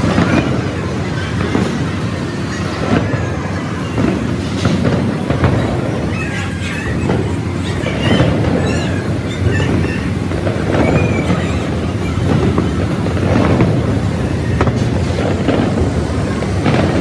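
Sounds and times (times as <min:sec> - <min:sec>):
rumble of fireworks explosions: 0:00.0 - 0:17.0
sharp firework crack: 0:00.0 - 0:17.0.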